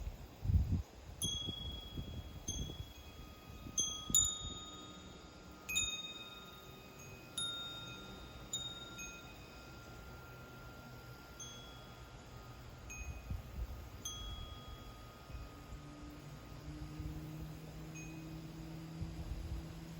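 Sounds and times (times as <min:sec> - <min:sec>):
wind chimes ringing: 0:01.2 - 0:19.5.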